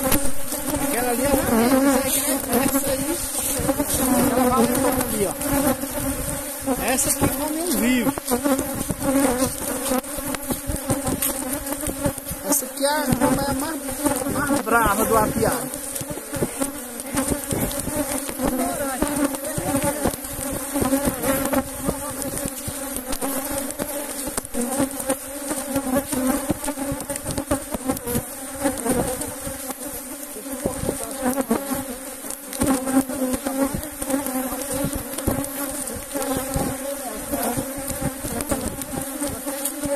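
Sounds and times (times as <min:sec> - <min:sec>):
bee flying past: 0:00.0 - 0:39.9
honey bees buzzing: 0:00.0 - 0:39.9.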